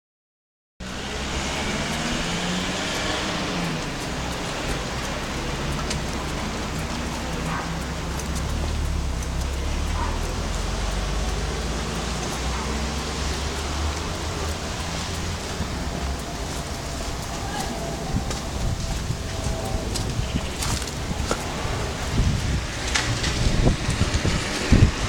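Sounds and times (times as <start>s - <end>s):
low rumble: 0.8s - 25.0s
street ambience hiss: 0.8s - 25.0s
faint clicks: 1.1s - 25.0s.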